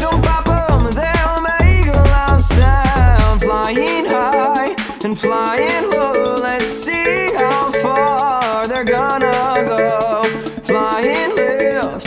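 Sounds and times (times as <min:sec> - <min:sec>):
heavy bass beat: 0:00.0 - 0:12.0
upbeat pop music with singing: 0:00.0 - 0:12.0.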